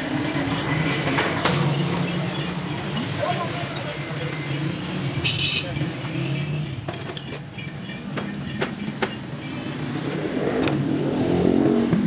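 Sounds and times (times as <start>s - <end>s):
passing vehicle: 0.0s - 12.0s
street traffic rumble: 0.0s - 12.0s.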